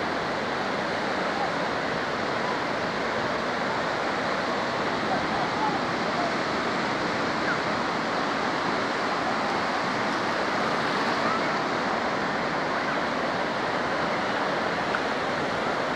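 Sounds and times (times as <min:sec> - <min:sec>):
ocean waves breaking on sand: 0:00.0 - 0:15.9.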